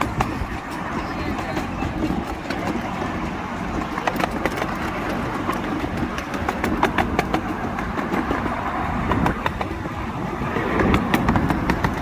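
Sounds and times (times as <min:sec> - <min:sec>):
train wheels rumbling on track: 0:00.0 - 0:12.0
wheels clicking over rail joints: 0:00.0 - 0:12.0.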